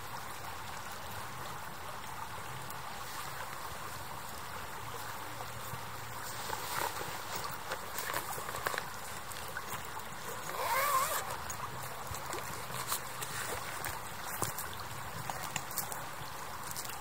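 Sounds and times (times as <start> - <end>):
gurgling water note: 0.0 - 17.0
river water rushing: 0.0 - 17.0
water splashes and drips: 0.0 - 17.0.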